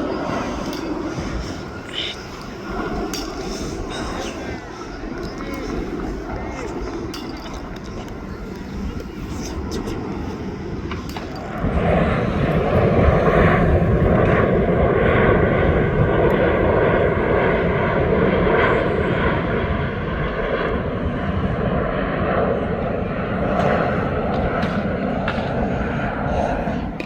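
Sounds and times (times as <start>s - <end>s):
jet airliner engines passing: 0.0s - 27.0s.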